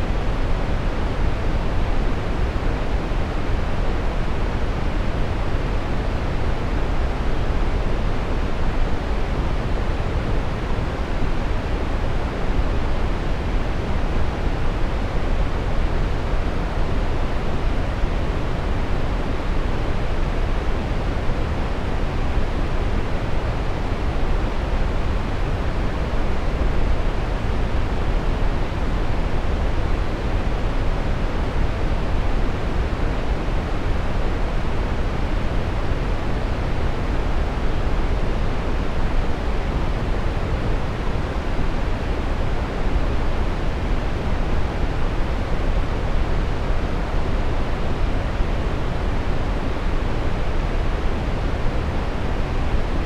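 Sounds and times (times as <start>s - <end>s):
brown noise rushing hiss: 0.0s - 53.0s.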